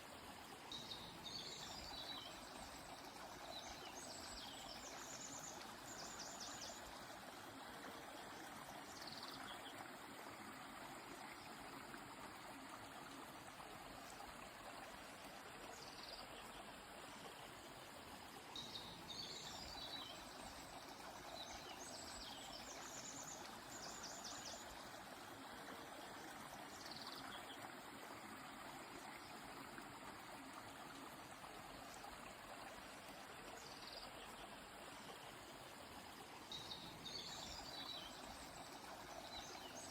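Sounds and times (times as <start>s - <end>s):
flowing stream: 0.0s - 39.9s.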